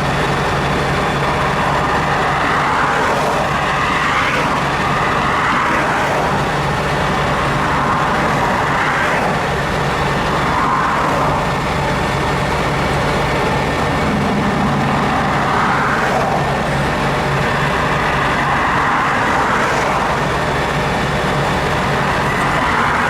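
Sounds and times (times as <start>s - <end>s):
road noise hiss: 0.0s - 23.0s
truck engine humming: 0.0s - 23.0s.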